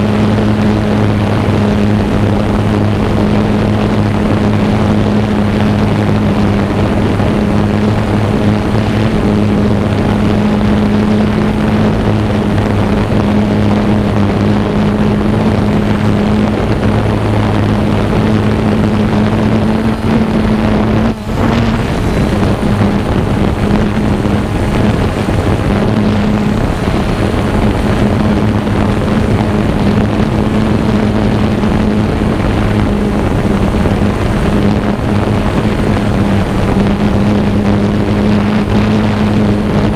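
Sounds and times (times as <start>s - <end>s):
drone propellers humming: 0.0s - 39.9s
wind noise: 0.0s - 39.9s.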